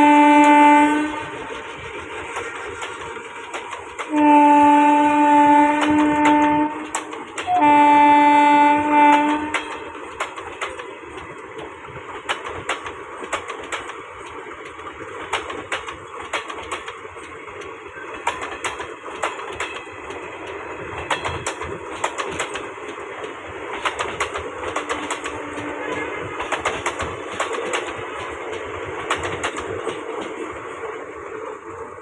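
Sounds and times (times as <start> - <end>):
train rumbling on rails: 0.0 - 32.0
train wheels clicking over rail joints: 0.0 - 32.0.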